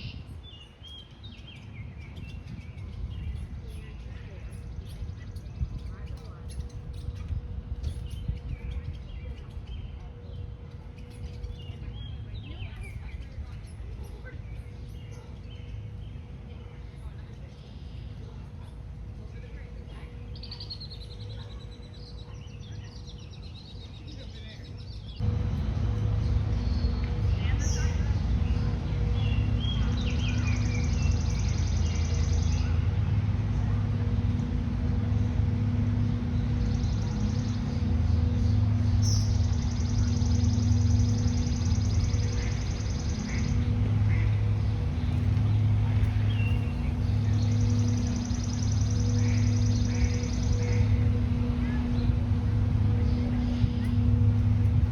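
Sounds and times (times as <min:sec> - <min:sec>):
bird trill: 0:00.0 - 0:18.7, 0:19.3 - 0:33.6, 0:34.3 - 0:54.9
low hum: 0:00.0 - 0:54.9
low outdoor rumble: 0:00.0 - 0:54.9
small birds chirping: 0:00.0 - 0:54.9.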